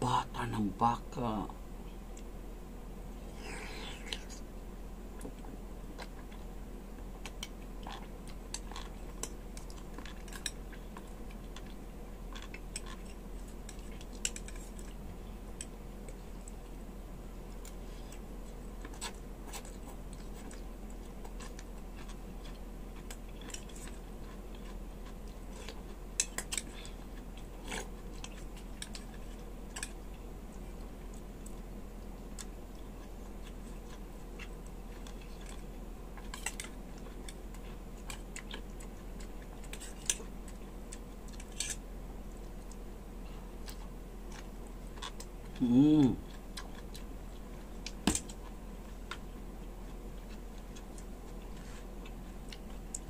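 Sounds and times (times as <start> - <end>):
steady low hum: 0.0 - 53.0
person chewing: 3.2 - 4.4, 7.2 - 16.6, 17.5 - 53.0.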